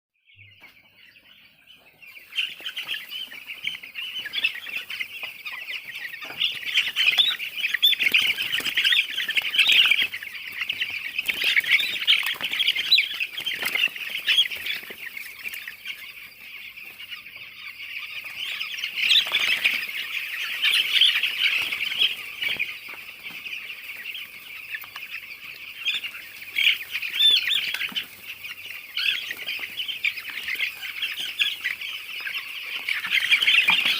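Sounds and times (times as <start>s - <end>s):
chicks peeping: 0.2s - 33.9s.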